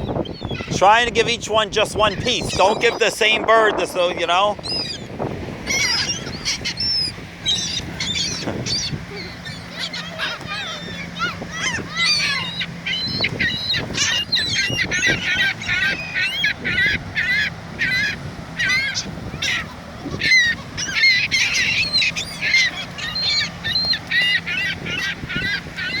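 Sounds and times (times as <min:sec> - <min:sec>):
flock of birds squawking: 0:00.0 - 0:26.0.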